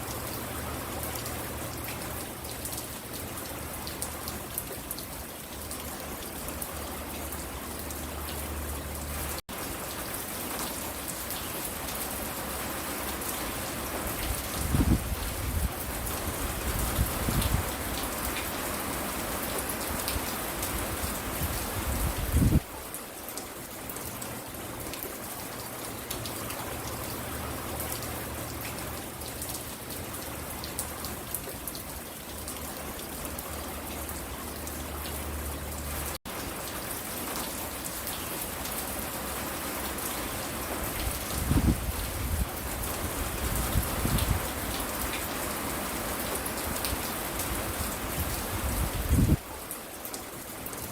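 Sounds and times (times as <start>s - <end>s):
rain pattering on porch: 0.0s - 50.9s.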